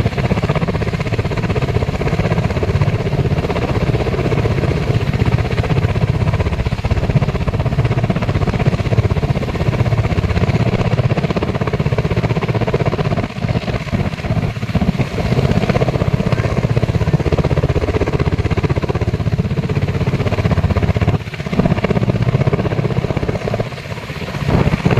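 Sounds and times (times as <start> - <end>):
helicopter rotor blades chopping: 0.0 - 24.9.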